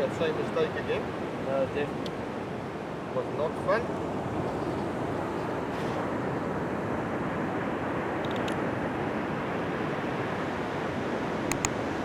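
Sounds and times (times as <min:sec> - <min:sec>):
ocean surf roaring: 0:00.0 - 0:12.0.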